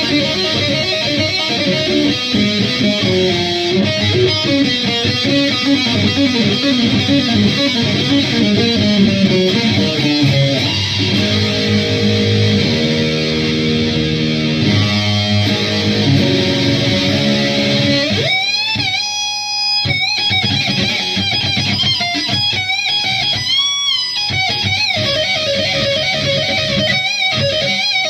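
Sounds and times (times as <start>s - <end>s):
heavily distorted electric guitar: 0.0s - 28.0s.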